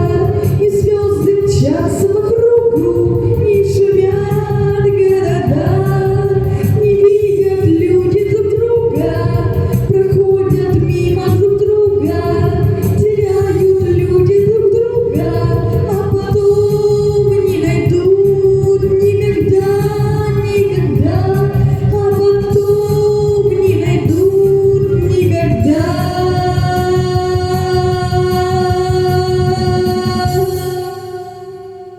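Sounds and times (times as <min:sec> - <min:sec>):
backing track: 0:00.0 - 0:31.9
woman singing: 0:00.0 - 0:31.9.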